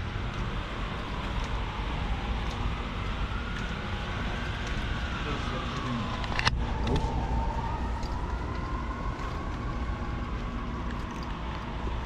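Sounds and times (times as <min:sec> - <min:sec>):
road traffic rumble: 0:00.0 - 0:12.0
siren wailing: 0:00.0 - 0:12.0.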